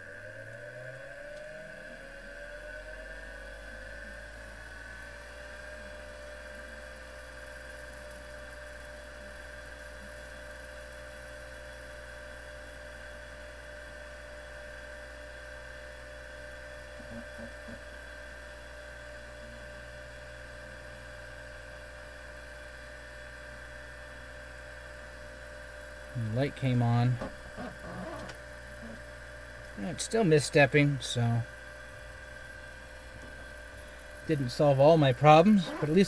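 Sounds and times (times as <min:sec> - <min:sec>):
hard drive motor whine: 0:00.0 - 0:36.0.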